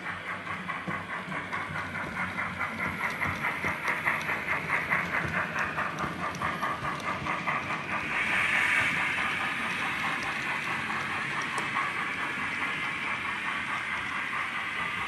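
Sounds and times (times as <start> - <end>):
model steam locomotive chuffs: 0.0 - 15.0.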